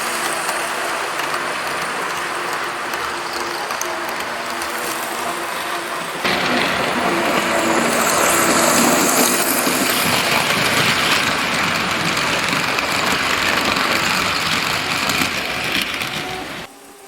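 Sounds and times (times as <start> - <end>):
model train motors whirring: 0.0 - 17.0
wheels on rails: 0.0 - 17.0.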